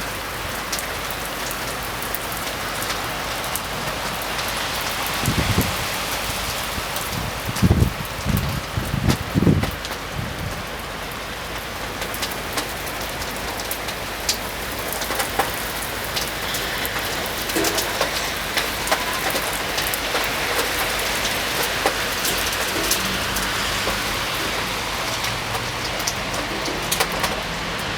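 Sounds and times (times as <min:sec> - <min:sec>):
heavy rain pattering: 0:00.0 - 0:27.9.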